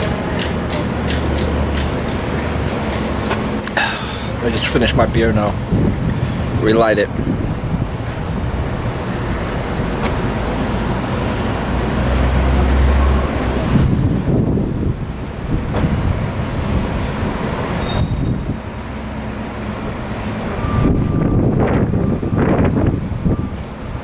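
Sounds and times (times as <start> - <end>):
high hiss: 0.0 - 20.8
city traffic rumble: 0.0 - 24.0
wind buffeting microphone: 0.0 - 24.0.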